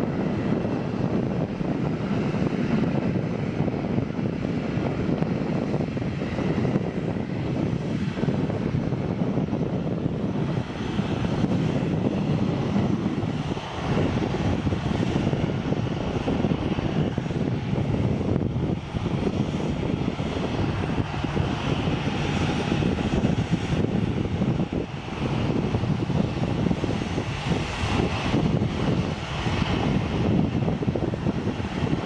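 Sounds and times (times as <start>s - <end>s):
jet engines running low rush: 0.0s - 32.0s.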